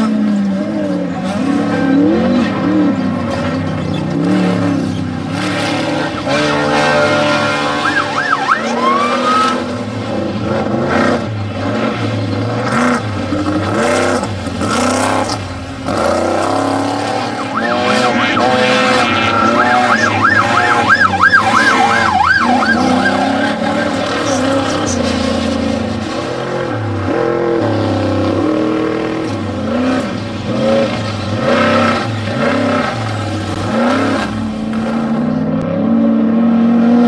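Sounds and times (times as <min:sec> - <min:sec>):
race vehicle engines revving: 0:00.0 - 0:37.0.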